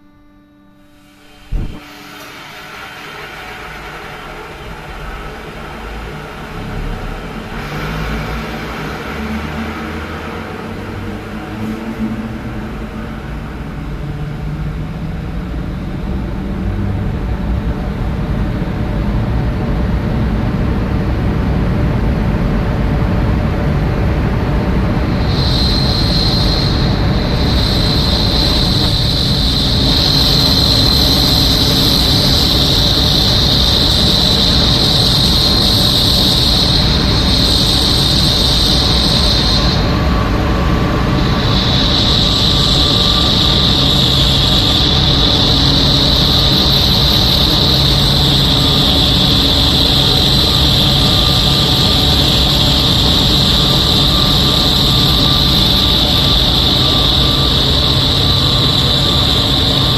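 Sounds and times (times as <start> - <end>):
high-pitched machine whine: 0.0 - 59.9
low machine rumble: 0.0 - 59.9.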